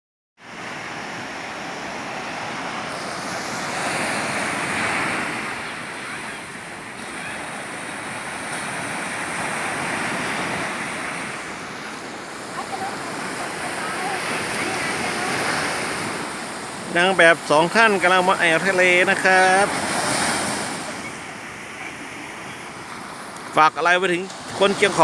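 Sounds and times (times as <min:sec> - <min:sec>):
waves breaking on a beach: 0:00.4 - 0:25.0.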